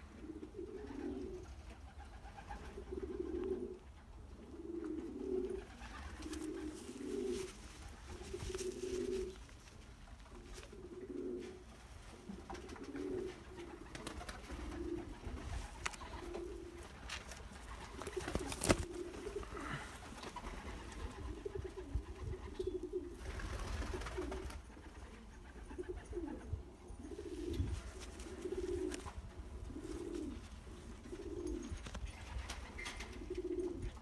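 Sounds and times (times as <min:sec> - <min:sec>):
pigeons cooing: 0:00.0 - 0:09.5, 0:10.3 - 0:34.0.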